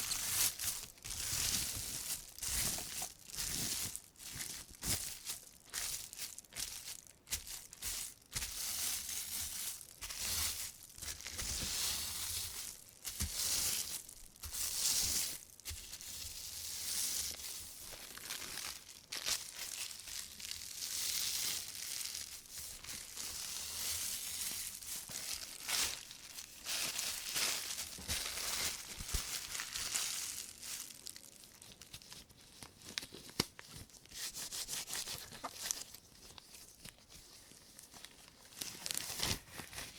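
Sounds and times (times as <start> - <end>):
plastic bag crinkling: 0.0 - 37.1, 37.8 - 39.9.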